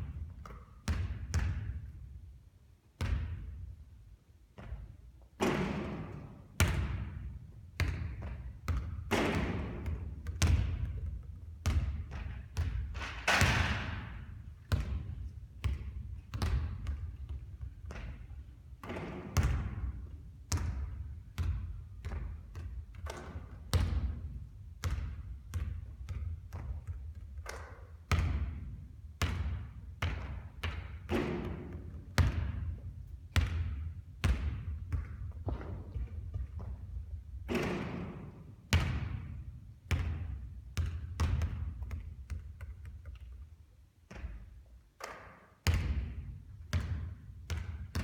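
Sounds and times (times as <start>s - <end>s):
basketball bouncing on a court: 0.0s - 2.2s, 3.0s - 3.8s, 4.6s - 48.0s.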